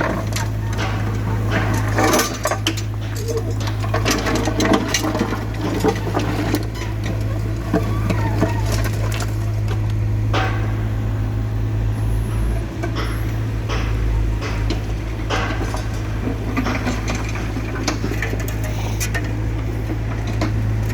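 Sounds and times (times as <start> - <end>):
concrete knocking and rattling: 0.0 - 20.9
excavator diesel engine running: 0.0 - 20.9.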